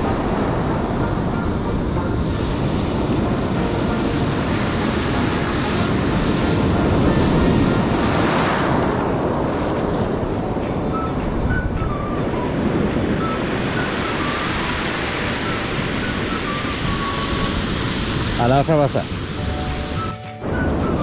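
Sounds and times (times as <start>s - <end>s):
sea surf breaking on shore: 0.0s - 21.0s
wind buffeting microphone: 0.0s - 21.0s.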